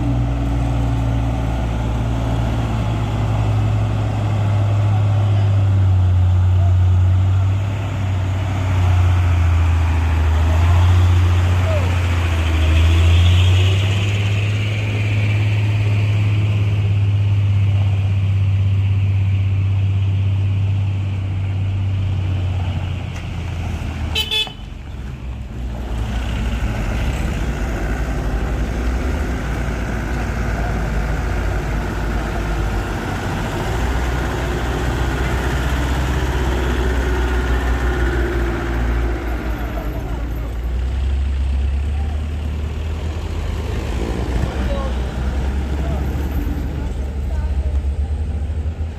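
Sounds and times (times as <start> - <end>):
diesel truck engine droning: 0.0 - 48.9.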